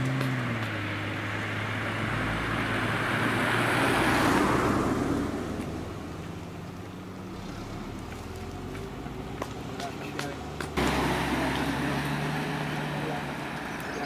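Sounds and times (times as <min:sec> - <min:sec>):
car driving past: 0:00.0 - 0:09.6, 0:10.4 - 0:14.0.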